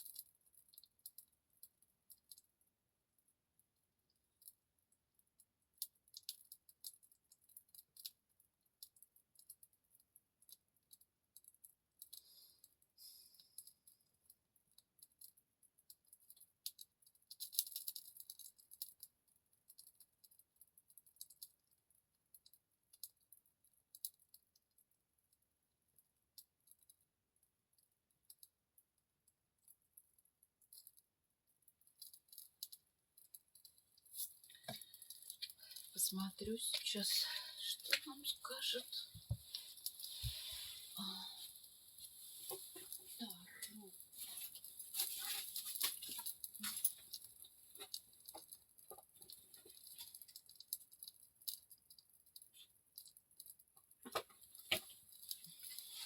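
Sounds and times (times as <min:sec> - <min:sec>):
small fire crackling: 0:00.0 - 0:56.0.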